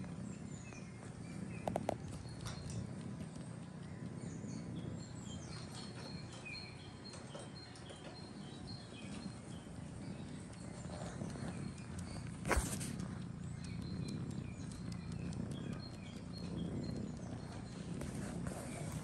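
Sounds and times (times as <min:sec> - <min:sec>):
faint high chirps: 0:00.0 - 0:19.0
kittens suckling: 0:00.0 - 0:19.0.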